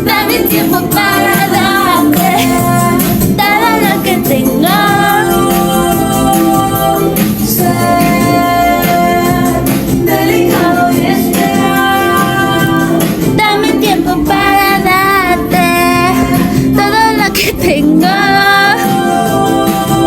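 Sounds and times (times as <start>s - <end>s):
instrumental backing: 0.0s - 20.0s
woman singing pop song: 0.0s - 20.0s.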